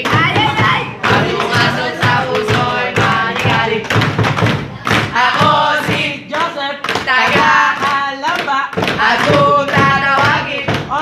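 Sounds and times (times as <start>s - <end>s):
person singing pop song: 0.0s - 4.2s, 4.8s - 11.0s
thumping beat: 0.0s - 11.0s.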